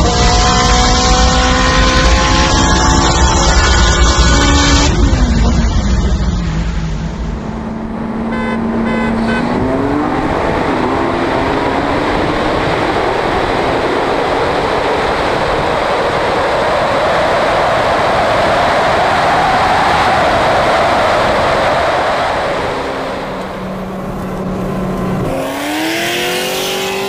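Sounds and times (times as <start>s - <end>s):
car engine accelerating: 0.0s - 27.0s
rushing wind and road noise: 0.0s - 27.0s.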